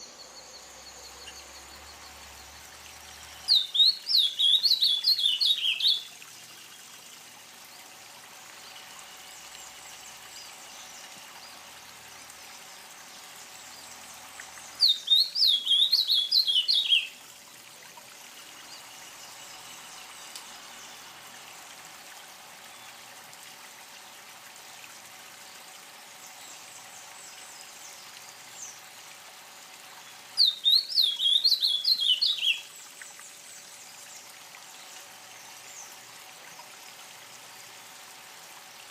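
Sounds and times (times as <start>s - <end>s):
songbird singing: 0.0s - 6.8s, 7.6s - 17.2s, 17.8s - 23.1s, 26.2s - 29.2s, 29.8s - 36.7s
faint water trickle: 0.0s - 38.9s.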